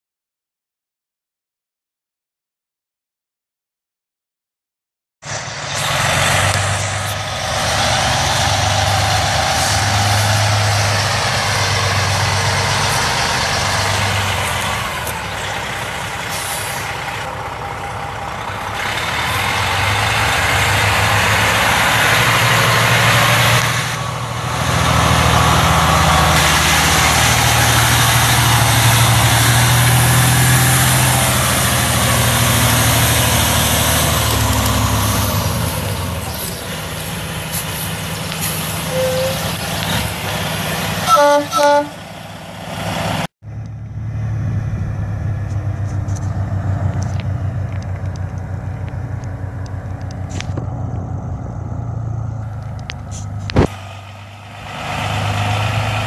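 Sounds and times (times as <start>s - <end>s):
diesel truck engine running: 5.2s - 56.0s.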